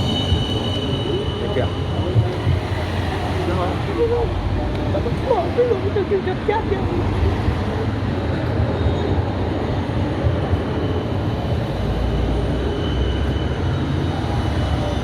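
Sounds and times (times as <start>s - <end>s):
tram running rumble: 0.0s - 15.0s.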